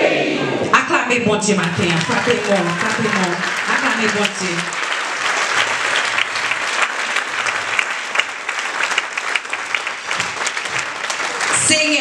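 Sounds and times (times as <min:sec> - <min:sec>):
crowd clapping: 0:01.5 - 0:12.0.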